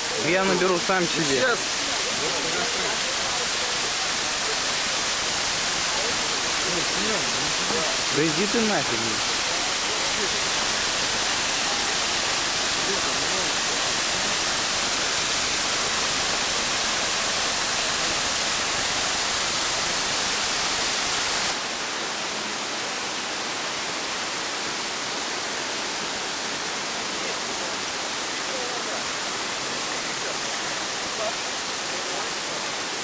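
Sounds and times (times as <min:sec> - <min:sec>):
small waterfall splashing on stones: 0:00.0 - 0:33.0.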